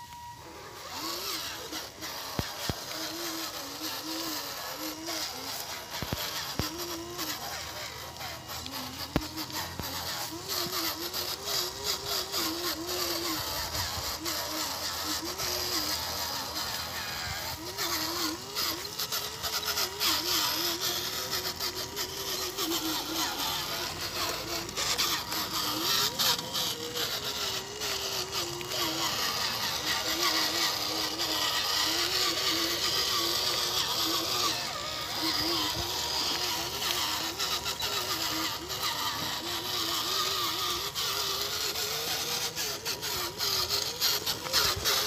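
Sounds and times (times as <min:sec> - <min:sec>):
electric motor and gearbox whining: 0:00.0 - 0:45.0.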